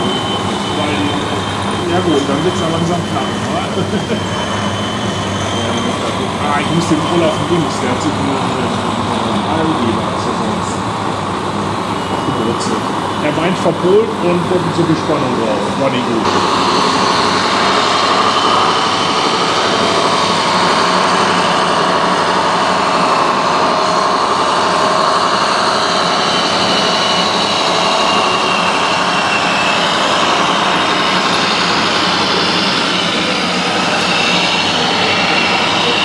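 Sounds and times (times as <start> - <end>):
toy truck motors droning: 0.0 - 36.0.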